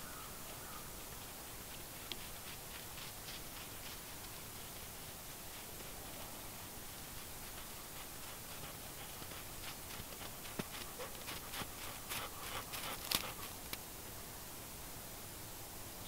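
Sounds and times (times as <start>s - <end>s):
dog paws crunching on snow: 0.0s - 13.8s
faint steady hiss: 0.0s - 16.0s.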